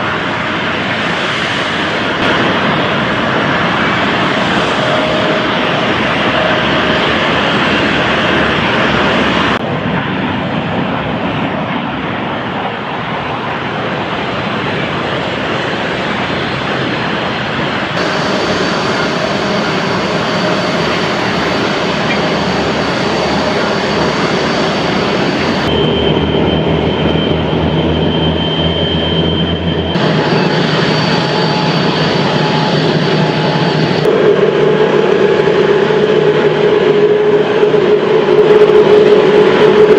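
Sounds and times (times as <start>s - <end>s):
jet engines roaring with whine: 0.0s - 39.9s.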